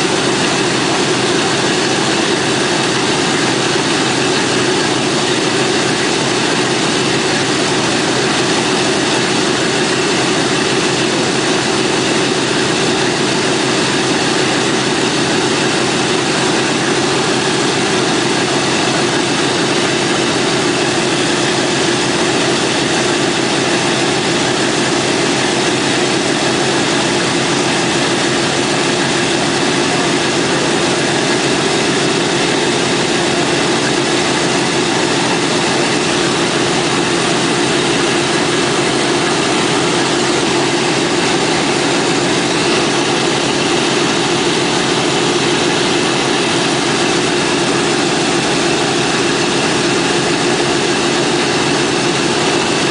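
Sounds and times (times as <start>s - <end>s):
radial aircraft engines running: 0.0s - 52.9s.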